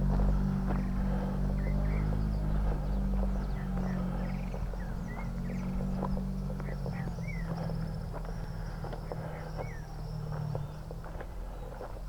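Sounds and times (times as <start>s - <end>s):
footsteps on a path: 0.0s - 12.0s
birds chirping: 0.2s - 11.9s.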